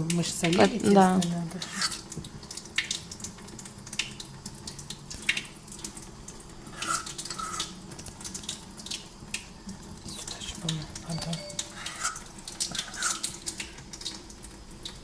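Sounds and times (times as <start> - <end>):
heating liquid hissing: 0.0 - 15.0.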